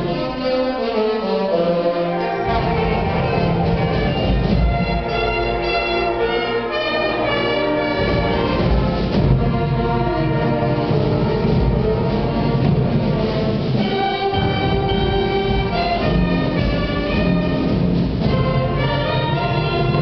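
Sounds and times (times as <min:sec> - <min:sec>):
brass holding chords: 0:00.0 - 0:20.0
concert band playing: 0:00.0 - 0:20.0.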